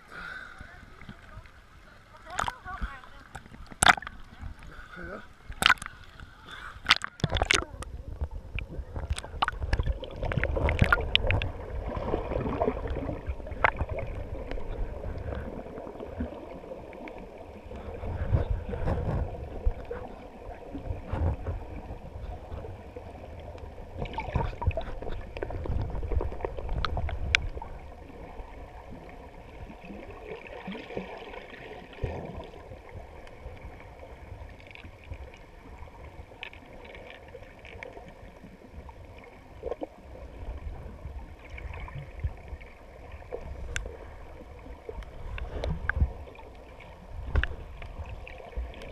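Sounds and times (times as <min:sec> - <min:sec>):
muffled underwater sloshing: 0:00.0 - 0:48.9.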